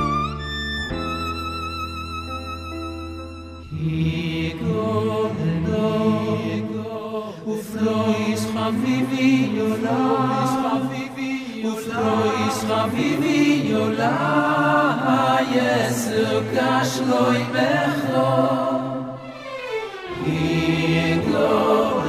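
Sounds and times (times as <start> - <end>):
voices singing a melody: 3.7 - 19.5, 20.1 - 22.0.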